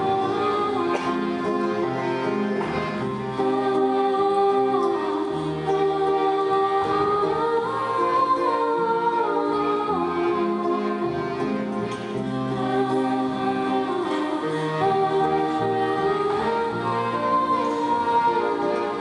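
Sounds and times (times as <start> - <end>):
person singing: 0.0 - 1.9, 3.4 - 11.5, 12.1 - 19.0
accordion band music: 0.0 - 19.0.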